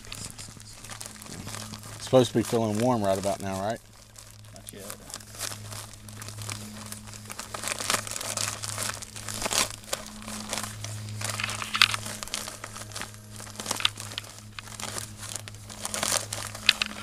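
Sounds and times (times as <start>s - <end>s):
plastic bag crinkling: 0.0s - 17.0s
steady low hum: 0.0s - 17.0s.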